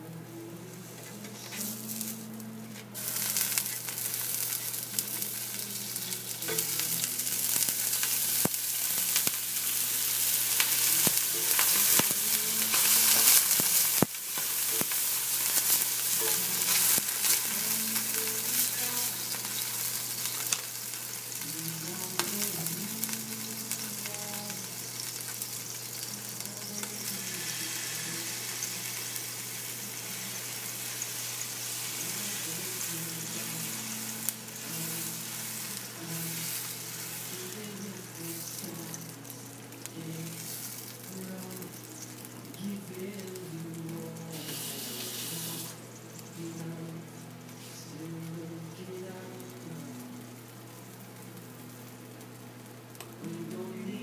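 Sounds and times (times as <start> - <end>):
sizzling on hot skillet: 0.0 - 54.0.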